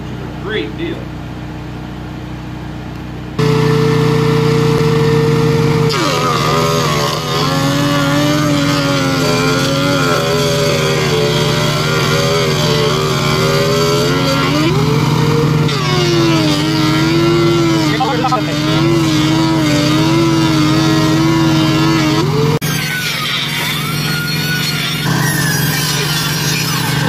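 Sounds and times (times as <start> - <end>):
thickness planer planing wood: 3.4 - 27.0.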